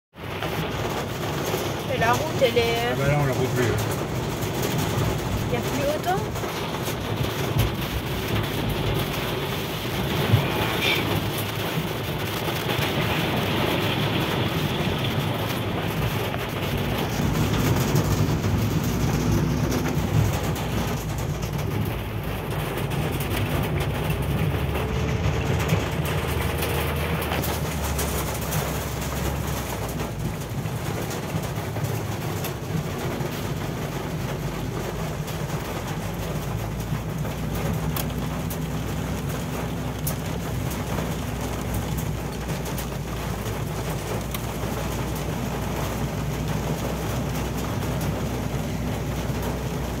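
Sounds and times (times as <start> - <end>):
car engine and tyre noise: 0.1 - 50.0
rain on windscreen: 0.1 - 50.0
tyres swishing through slush: 1.2 - 50.0.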